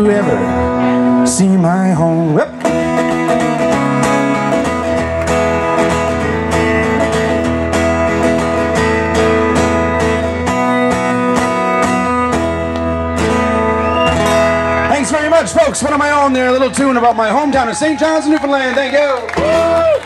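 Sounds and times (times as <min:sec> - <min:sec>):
acoustic guitar strumming: 0:00.0 - 0:17.5.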